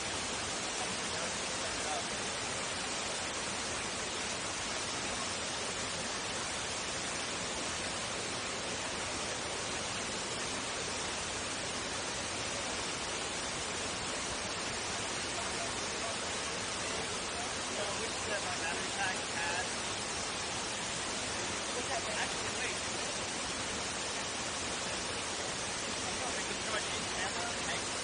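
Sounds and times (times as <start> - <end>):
water running through rocky creek: 0.0 - 28.0
waterfall rushing: 0.0 - 28.0.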